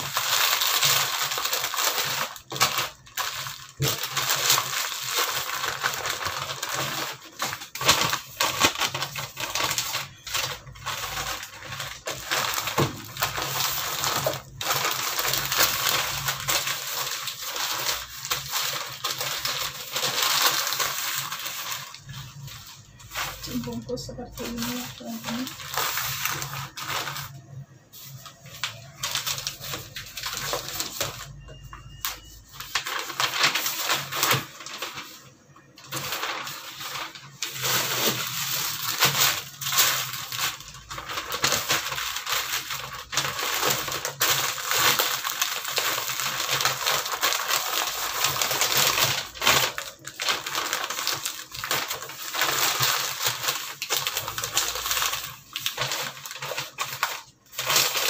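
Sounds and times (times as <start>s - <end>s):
newspaper rustling and crinkling: 0.0s - 58.0s.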